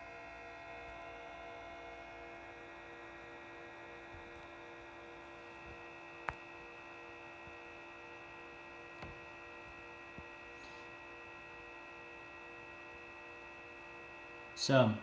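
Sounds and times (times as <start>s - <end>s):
amplifier cooling fans humming: 0.0s - 15.0s.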